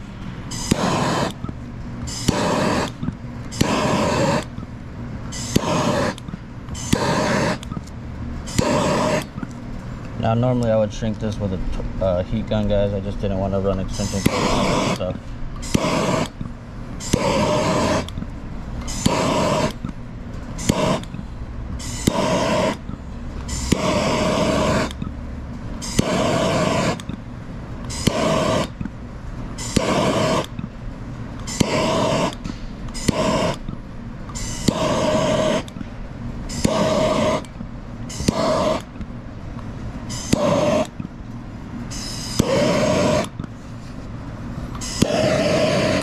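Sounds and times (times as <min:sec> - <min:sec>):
torch flame rushing: 0:00.0 - 0:04.6, 0:05.2 - 0:07.8, 0:08.4 - 0:25.1, 0:25.7 - 0:27.2, 0:27.8 - 0:28.9, 0:29.5 - 0:30.6, 0:31.4 - 0:35.8, 0:36.5 - 0:39.0, 0:40.0 - 0:41.1, 0:41.9 - 0:43.4, 0:44.7 - 0:46.0
steady low rumble: 0:00.0 - 0:46.0.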